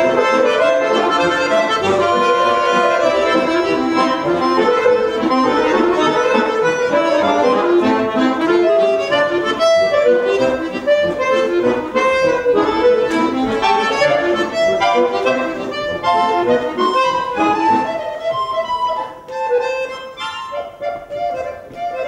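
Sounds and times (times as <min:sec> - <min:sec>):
accordions playing in duet: 0:00.0 - 0:22.0.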